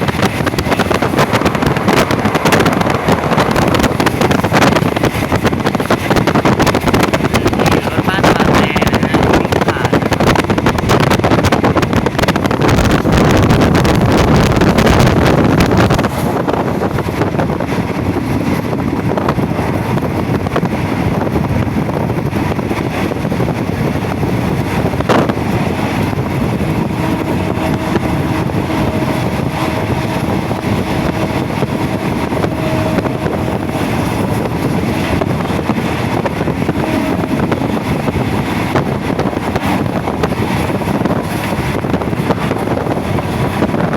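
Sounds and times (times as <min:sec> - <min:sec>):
moving train rail and wind noise: 0:00.0 - 0:43.9
wind buffeting microphone: 0:00.0 - 0:43.9.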